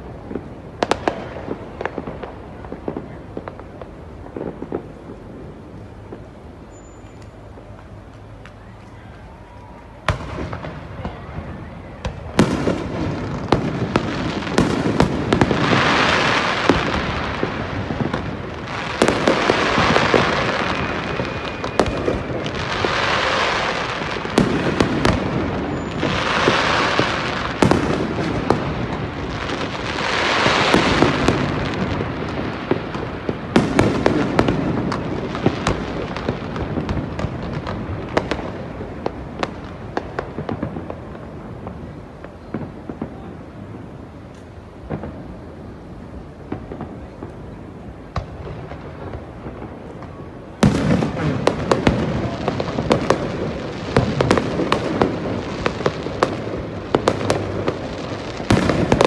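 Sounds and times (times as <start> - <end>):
fireworks cracks and bangs: 0.0 - 59.0.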